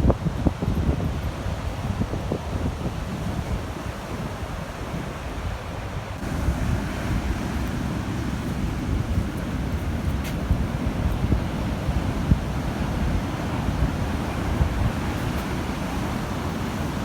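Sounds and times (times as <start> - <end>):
waves breaking on a beach: 0.0 - 17.0
wind buffeting microphone: 0.0 - 17.0.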